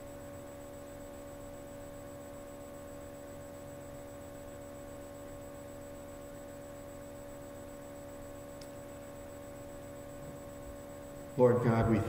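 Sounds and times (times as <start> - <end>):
electrical hum with tones: 0.0 - 12.0.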